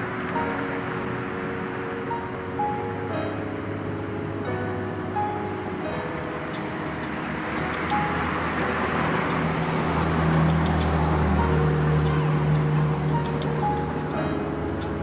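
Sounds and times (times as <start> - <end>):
background music: 0.0 - 15.0
vehicle passing: 0.0 - 15.0.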